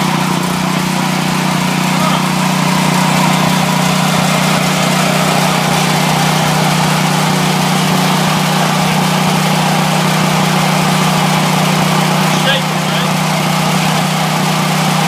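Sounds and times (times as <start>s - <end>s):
generator engine humming: 0.0s - 15.0s.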